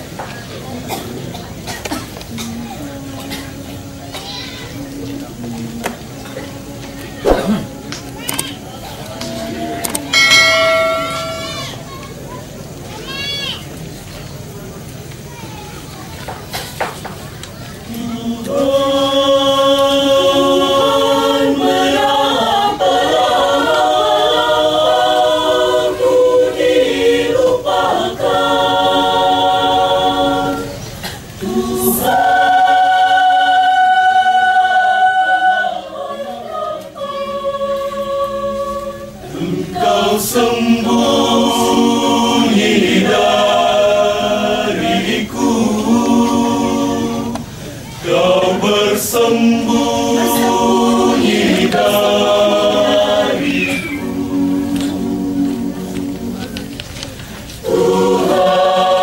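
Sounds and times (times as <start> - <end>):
choir singing: 1.6 - 12.2, 17.8 - 59.0.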